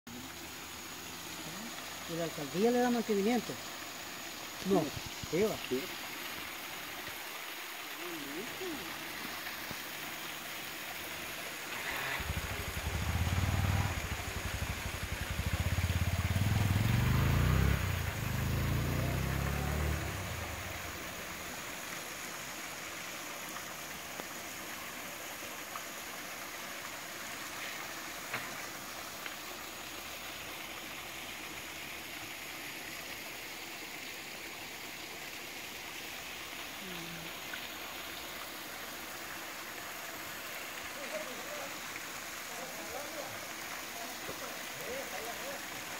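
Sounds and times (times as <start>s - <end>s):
water trickling over weir: 0.1s - 45.9s
waterfall rushing: 0.1s - 45.9s.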